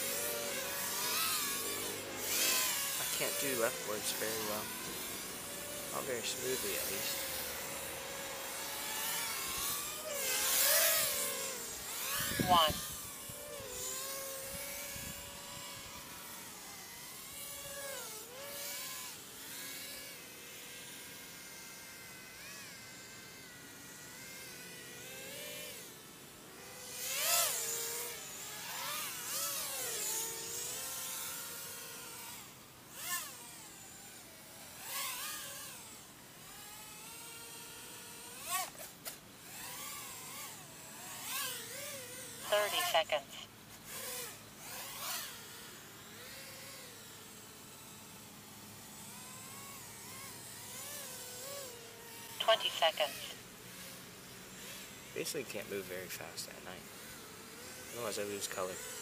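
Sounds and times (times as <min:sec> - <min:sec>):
quadcopter motors whining: 0:00.0 - 0:59.0.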